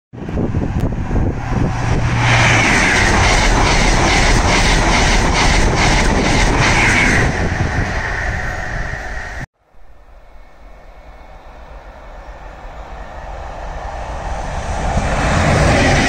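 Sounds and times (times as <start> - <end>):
train passing at speed: 0.2 - 16.0.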